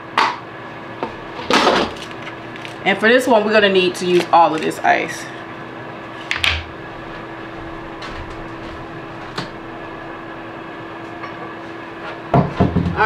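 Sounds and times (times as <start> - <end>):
kitchen room hum: 0.0 - 13.0.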